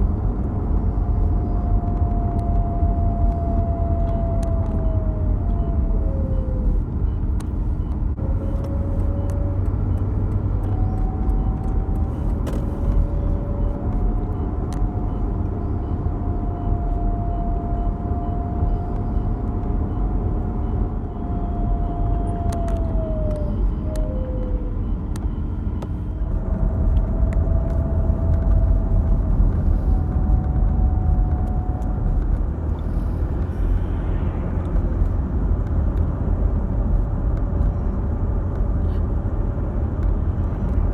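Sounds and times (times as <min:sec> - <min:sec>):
car low hum: 0:00.0 - 0:40.9.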